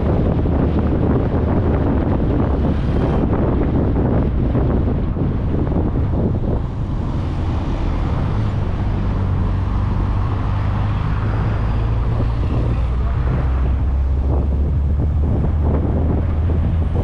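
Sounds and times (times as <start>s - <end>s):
car engine hum: 0.0s - 17.0s
tyre and road noise: 0.0s - 17.0s
wind buffeting microphone: 0.0s - 17.0s.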